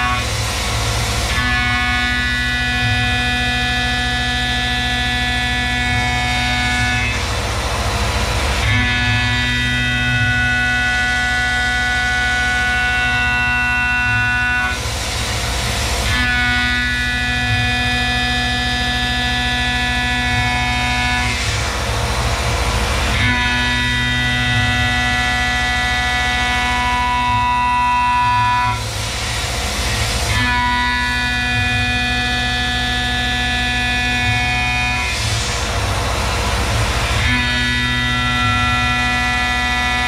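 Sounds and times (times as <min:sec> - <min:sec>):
milling machine whine: 0:00.0 - 0:40.0.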